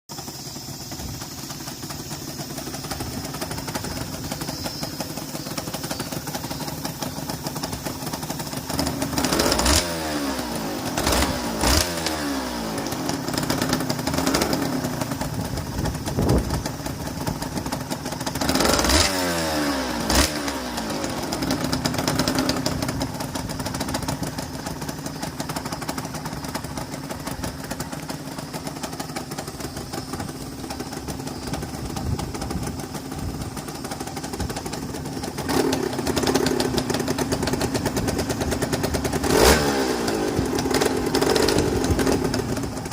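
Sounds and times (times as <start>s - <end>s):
engine sharp cracks: 0.1s - 42.9s
two-stroke engine idling and revving: 0.1s - 42.9s.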